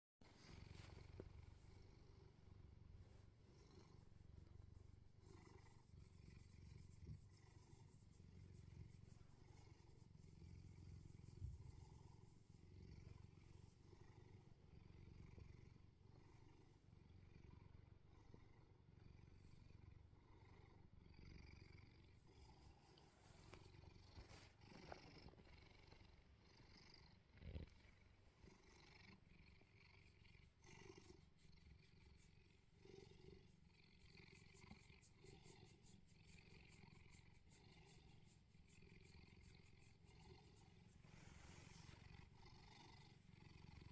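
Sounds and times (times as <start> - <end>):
cat purring: 0.2 - 43.9.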